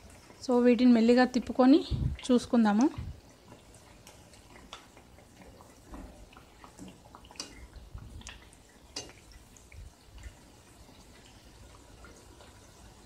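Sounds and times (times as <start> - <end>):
oil sizzling and popping: 0.0 - 13.0.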